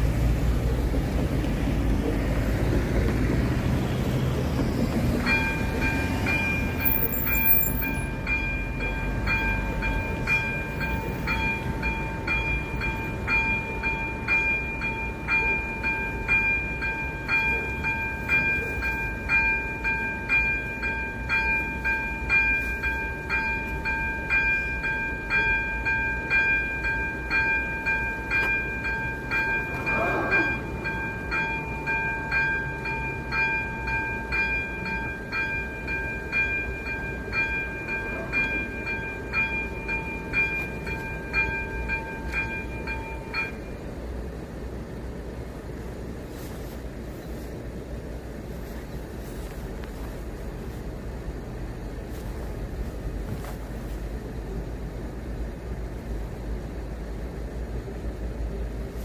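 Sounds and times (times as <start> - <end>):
level-crossing warning bell: 0.0 - 53.2
road traffic rumble: 0.0 - 59.0.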